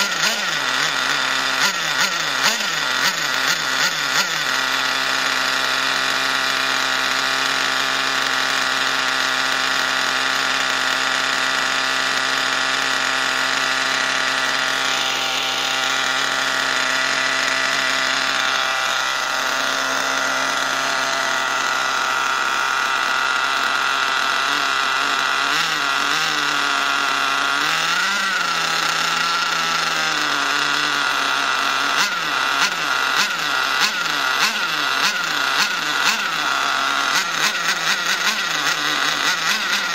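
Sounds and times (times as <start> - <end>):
engine throttle blips: 0.0 - 39.9
model car engine idling: 0.0 - 39.9.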